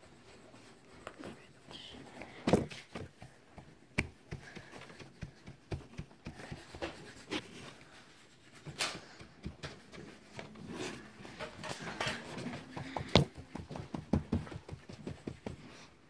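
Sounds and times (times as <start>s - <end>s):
marker tapping and rubbing on paper: 2.0s - 11.8s, 12.5s - 15.8s.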